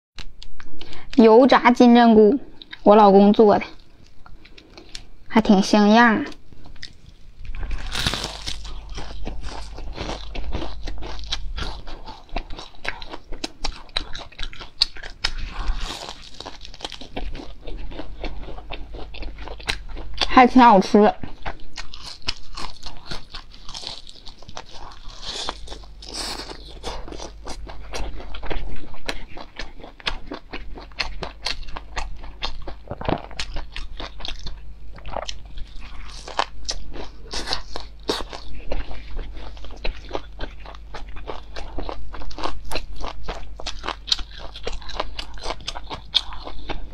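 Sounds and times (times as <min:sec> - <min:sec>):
crunching and chewing fried food: 0:02.5 - 0:05.2, 0:06.0 - 0:46.9.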